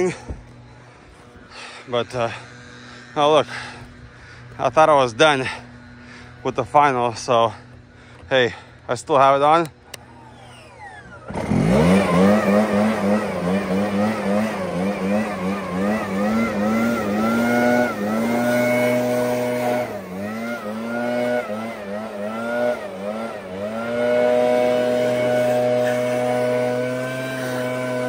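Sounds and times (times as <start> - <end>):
leaf blower running: 0.0 - 28.0.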